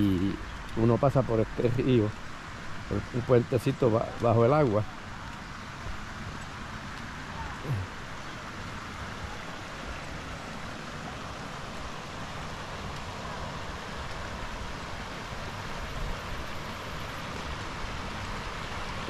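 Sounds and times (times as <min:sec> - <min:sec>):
water flowing over rocks: 0:00.0 - 0:19.0.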